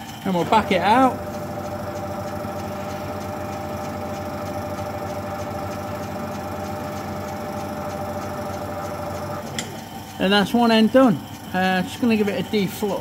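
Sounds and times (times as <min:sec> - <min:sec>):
lathe motor whine: 0:00.0 - 0:13.0.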